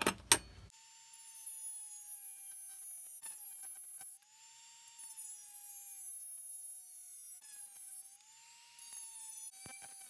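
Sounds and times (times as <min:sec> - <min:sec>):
rotary tool high whine: 0:00.7 - 0:10.0.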